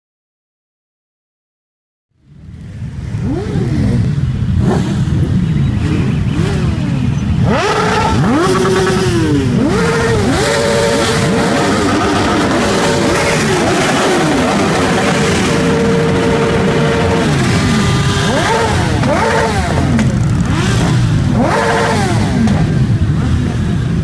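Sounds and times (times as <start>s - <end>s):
motorcycle engines idling: 2.3s - 24.0s
motorcycle throttles revving: 2.9s - 24.0s.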